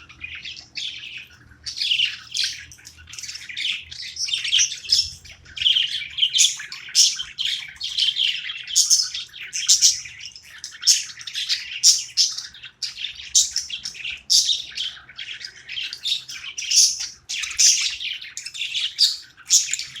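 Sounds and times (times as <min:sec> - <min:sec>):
budgies chirping: 0:00.0 - 0:20.0.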